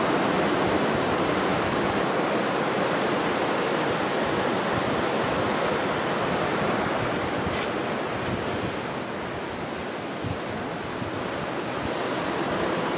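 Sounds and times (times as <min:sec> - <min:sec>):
ocean surf breaking: 0:00.0 - 0:12.9.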